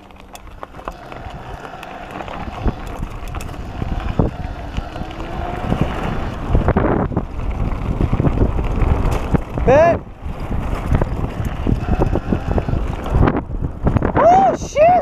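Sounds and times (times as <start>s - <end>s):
bike knocking and rattling: 0.0s - 14.2s
tyres crunching on gravel: 0.0s - 14.2s
wind rushing over microphone: 0.0s - 15.0s.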